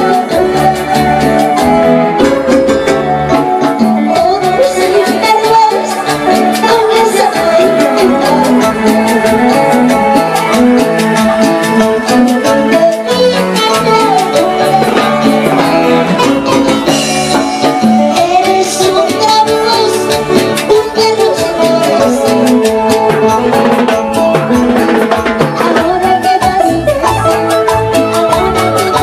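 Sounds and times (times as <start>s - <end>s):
electro-acoustic guitar: 0.0s - 29.0s
live band music: 0.0s - 29.0s.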